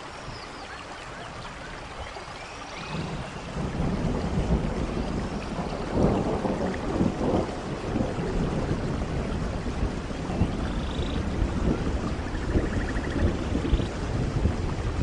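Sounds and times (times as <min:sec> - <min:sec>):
steady rain: 0:00.0 - 0:15.0
thunder rolling: 0:02.9 - 0:15.0.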